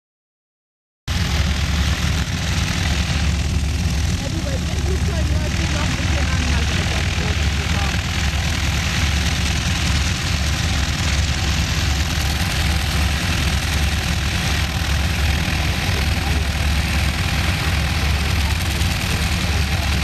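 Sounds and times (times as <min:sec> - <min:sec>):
aircraft engines idling: 0:01.1 - 0:20.0.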